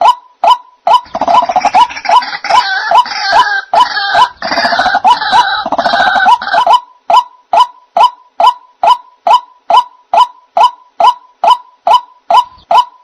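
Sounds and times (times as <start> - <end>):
bird calls: 0.0 - 13.0.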